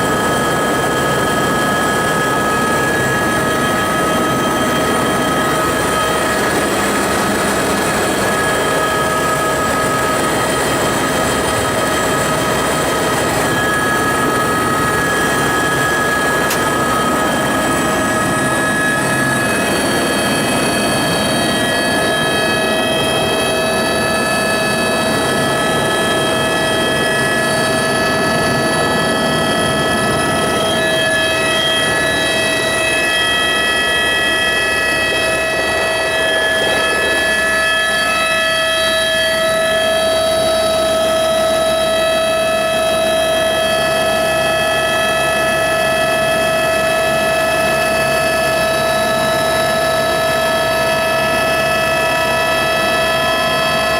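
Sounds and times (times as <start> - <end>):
helicopter rotor and engine: 0.0 - 53.9.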